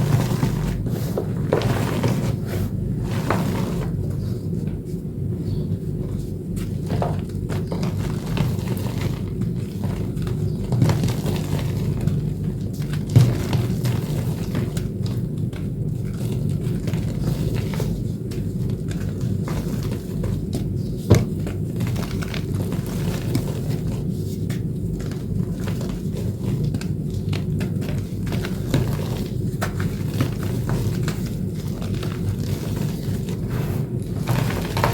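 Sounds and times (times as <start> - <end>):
chalk crunching and crackling: 0.0 - 4.7, 6.1 - 34.9.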